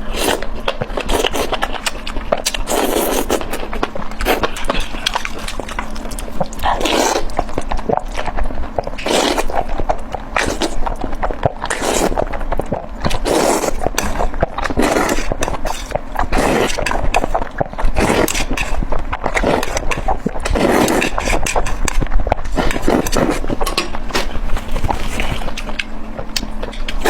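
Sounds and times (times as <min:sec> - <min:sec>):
chewing food with wet smacks: 0:00.2 - 0:27.0.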